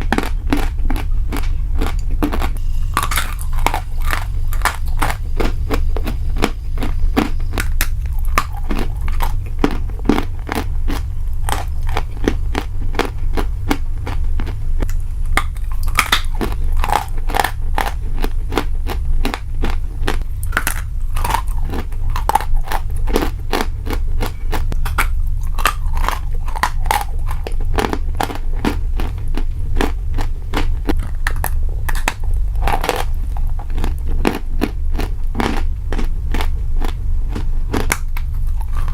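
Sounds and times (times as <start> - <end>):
crunchy chewing: 0.0 - 38.9
steady low hum: 0.0 - 38.9.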